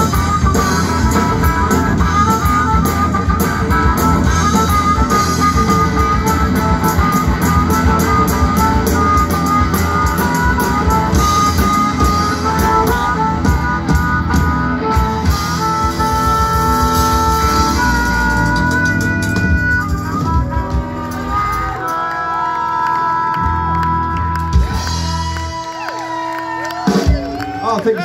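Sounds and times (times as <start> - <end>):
electric guitar melody: 0.0 - 28.0
live rock band playing: 0.0 - 28.0.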